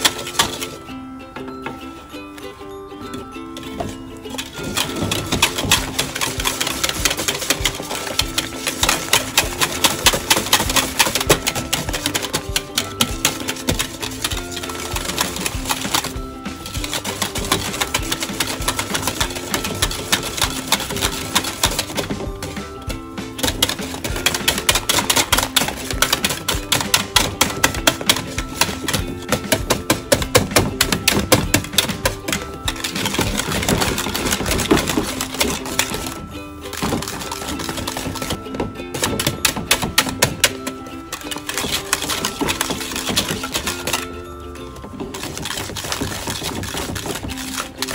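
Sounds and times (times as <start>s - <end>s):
whisk clacking against pot: 0.0s - 0.8s, 3.5s - 47.9s.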